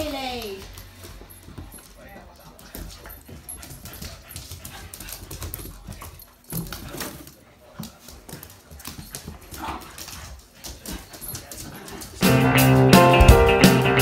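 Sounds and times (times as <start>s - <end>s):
puppies scuffling: 0.0s - 12.2s.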